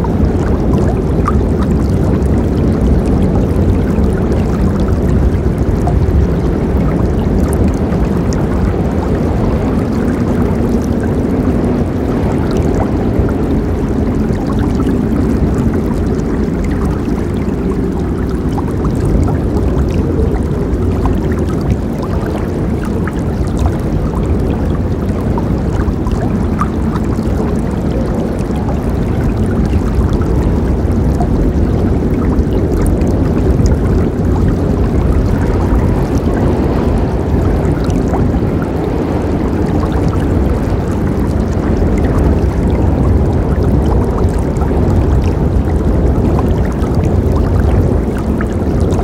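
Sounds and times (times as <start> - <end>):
faint splashes and gurgles: 0.0 - 49.0
river water rushing: 6.7 - 49.0.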